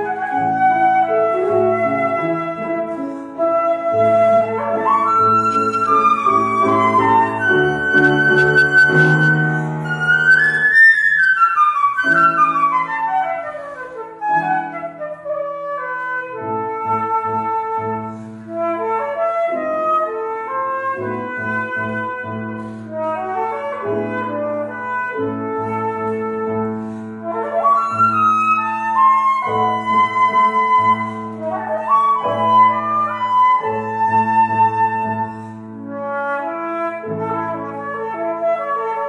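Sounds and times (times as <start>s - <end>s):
flute playing: 0.0s - 39.0s
piano accompaniment: 0.0s - 39.0s.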